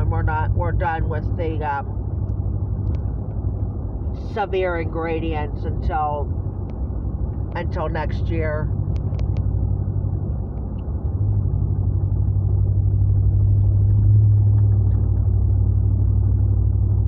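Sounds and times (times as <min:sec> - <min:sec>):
car engine rumble: 0:00.0 - 0:17.0
road noise inside car: 0:00.0 - 0:17.0.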